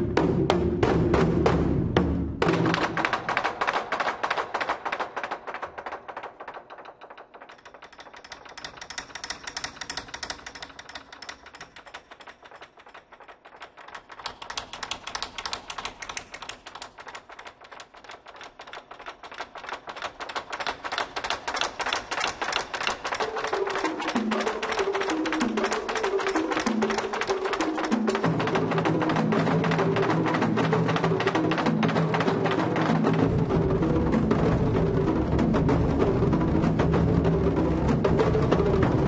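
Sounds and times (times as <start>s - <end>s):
fast drum roll with sticks: 0.0s - 39.0s.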